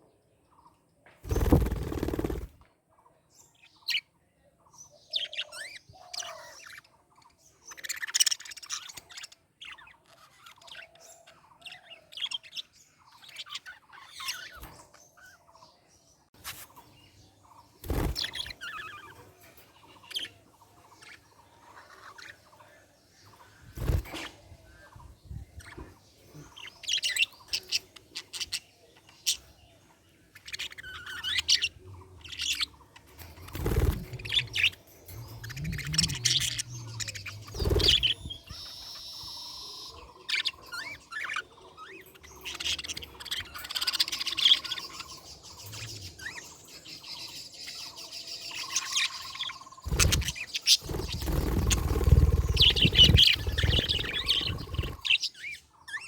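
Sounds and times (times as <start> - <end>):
budgerigars chirping and warbling: 1.3 - 2.5, 3.6 - 15.9, 16.5 - 56.0.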